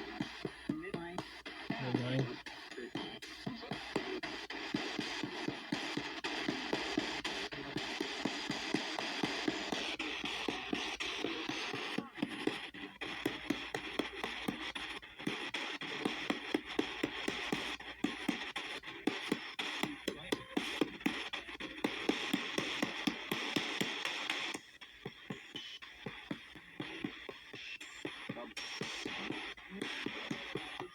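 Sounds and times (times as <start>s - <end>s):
radio static hiss: 0.0s - 30.9s
snatches of broadcast sound: 0.0s - 30.9s.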